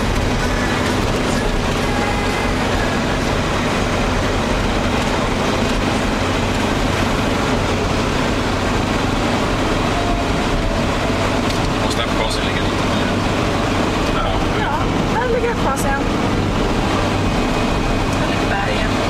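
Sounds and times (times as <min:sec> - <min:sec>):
constant low hum: 0:00.0 - 0:19.0
vehicle driving on asphalt: 0:00.0 - 0:19.0.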